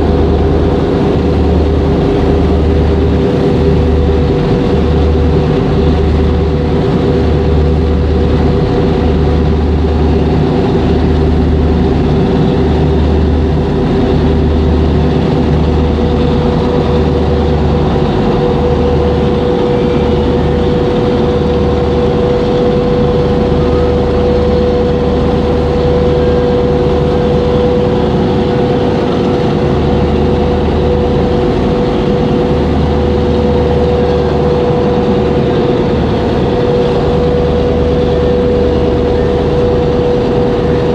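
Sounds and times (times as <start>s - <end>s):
engine droning hum: 0.0s - 40.9s.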